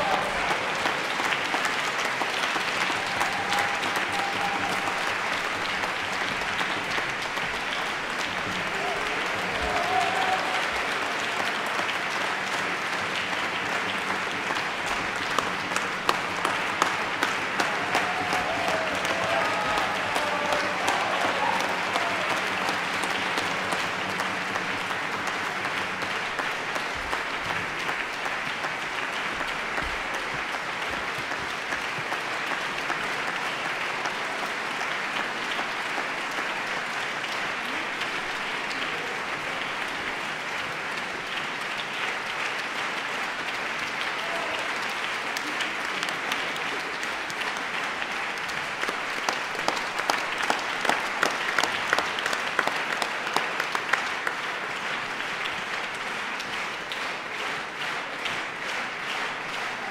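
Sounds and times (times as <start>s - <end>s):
audience applauding: 0.0s - 59.9s.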